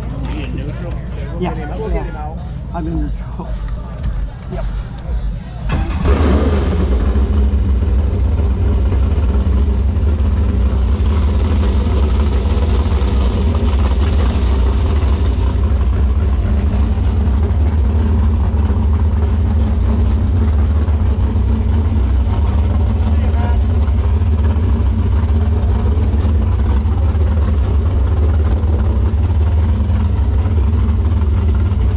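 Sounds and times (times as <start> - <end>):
boat engine idling: 0.0 - 31.9.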